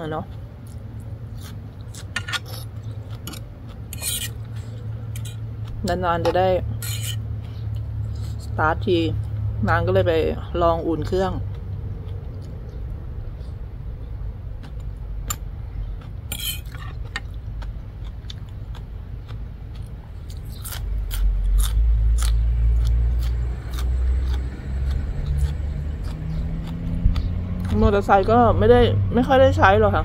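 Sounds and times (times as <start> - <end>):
chewing and crunching food: 0.0 - 9.6, 10.4 - 28.6
low engine rumble: 0.0 - 30.0.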